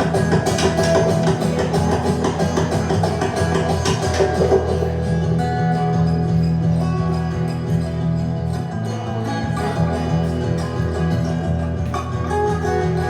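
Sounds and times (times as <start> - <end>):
instrumental guitar music: 0.0 - 13.0.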